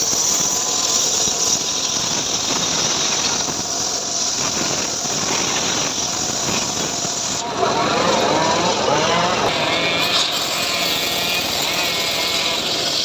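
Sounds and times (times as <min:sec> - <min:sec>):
engine-driven sawmill running: 0:00.0 - 0:13.0.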